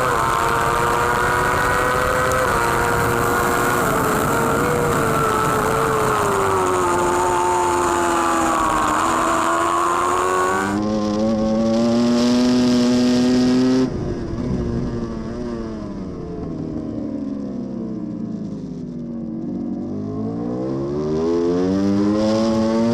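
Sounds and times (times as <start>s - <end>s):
superbike engine at high revs: 0.0s - 15.8s, 19.3s - 22.9s.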